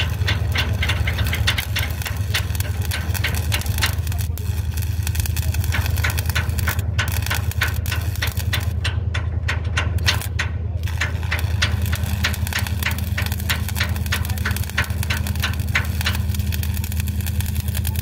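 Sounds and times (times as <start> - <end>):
low machine hum: 0.0 - 18.0
welding arc crackling: 0.0 - 18.0.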